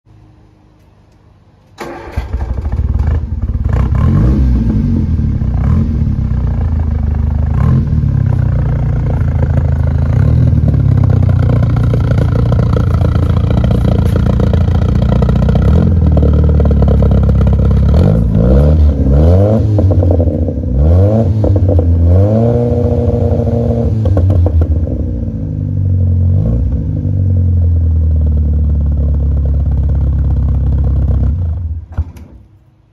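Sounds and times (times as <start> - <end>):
car engine idling and revving: 2.0 - 31.9.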